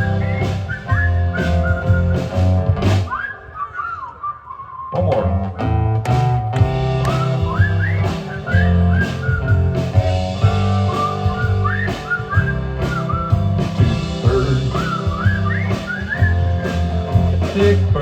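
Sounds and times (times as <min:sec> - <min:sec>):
live band guitar and bass: 0:00.0 - 0:03.8, 0:04.9 - 0:18.0
people whistling a tune: 0:00.0 - 0:05.0, 0:07.0 - 0:17.0.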